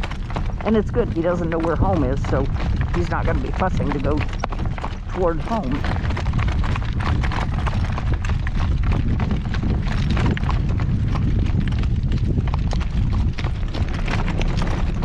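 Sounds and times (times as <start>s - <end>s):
horse hooves clip-clopping: 0.0s - 15.0s
low rumble: 0.0s - 15.0s.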